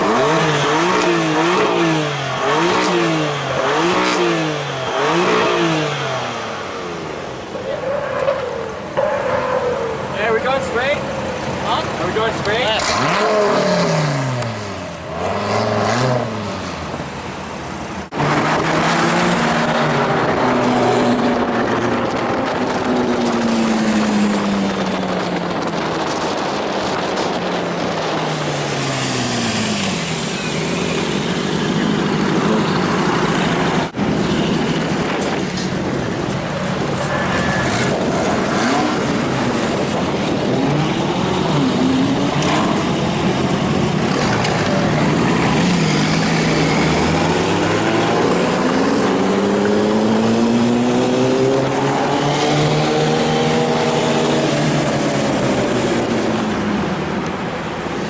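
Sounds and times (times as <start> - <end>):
sports car engines revving: 0.0 - 58.0.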